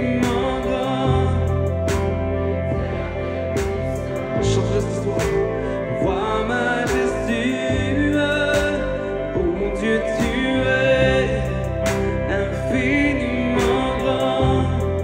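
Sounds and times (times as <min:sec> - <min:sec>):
guitar and keyboard chords: 0:00.0 - 0:15.0
person singing: 0:00.0 - 0:15.0.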